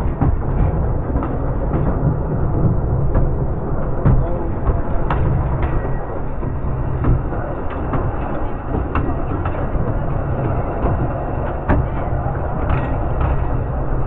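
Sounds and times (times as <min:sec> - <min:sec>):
railway carriages rumbling: 0:00.0 - 0:14.0
wheels clicking over rail joints: 0:00.0 - 0:14.0.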